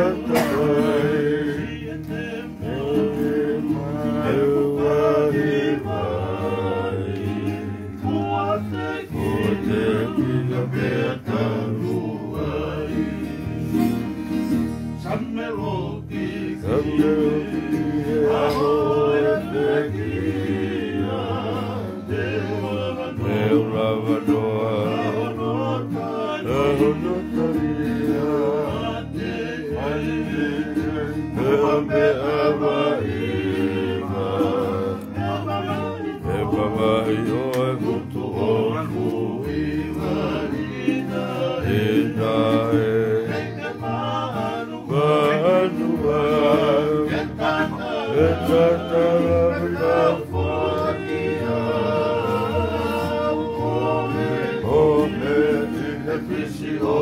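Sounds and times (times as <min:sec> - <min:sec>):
men singing in harmony: 0:00.0 - 0:57.0
strummed acoustic guitars: 0:00.0 - 0:57.0.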